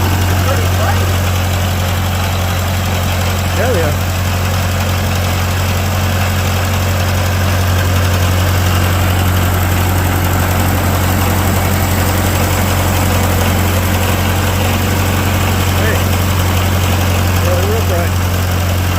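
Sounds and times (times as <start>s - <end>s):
tractor engine idling: 0.0s - 18.9s.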